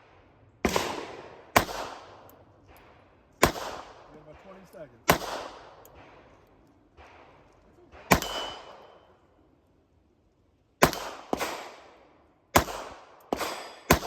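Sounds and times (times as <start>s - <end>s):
shotgun shots: 0.0s - 9.1s, 10.8s - 14.0s.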